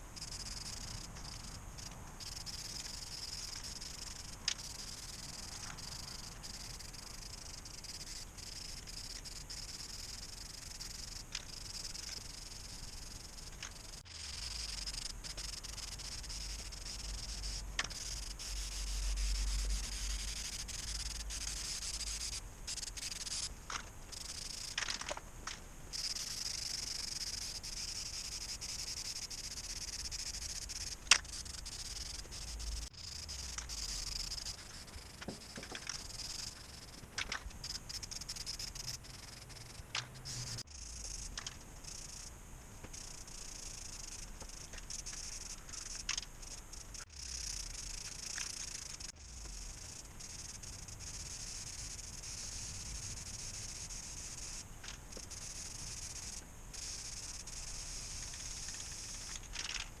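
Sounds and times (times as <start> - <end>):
paint spray hiss: 0.0 - 42.3, 42.9 - 60.0.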